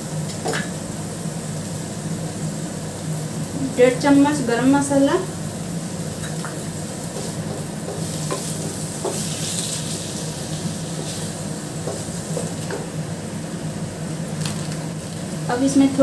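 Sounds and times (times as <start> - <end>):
cheese sizzling in pan: 0.0 - 16.0.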